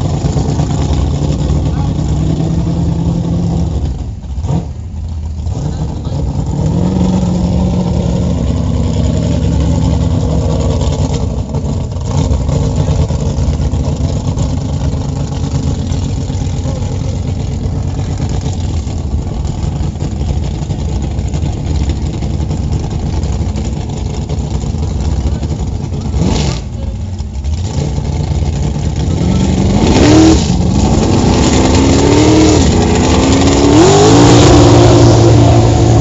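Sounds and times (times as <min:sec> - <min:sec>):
engine running hard: 0:00.0 - 0:36.0.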